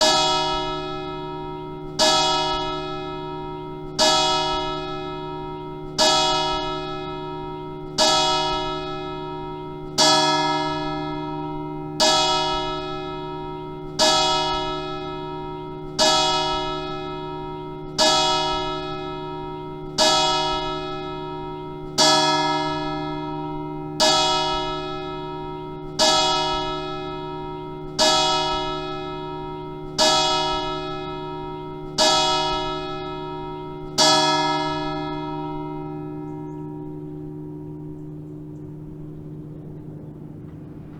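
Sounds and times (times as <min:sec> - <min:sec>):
church bell tolling: 0:00.0 - 0:40.9.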